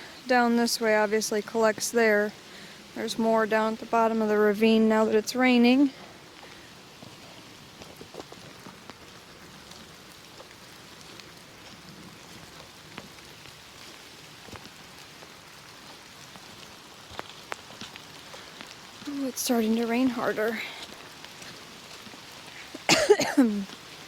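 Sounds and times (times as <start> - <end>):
steady rain falling: 0.0 - 24.0
taps of raindrops close by: 0.0 - 24.0.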